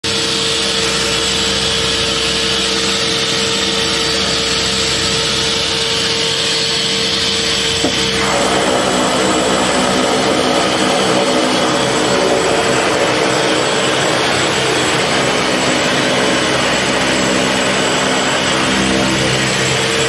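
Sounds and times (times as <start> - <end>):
turboprop engines whining: 0.0 - 20.0.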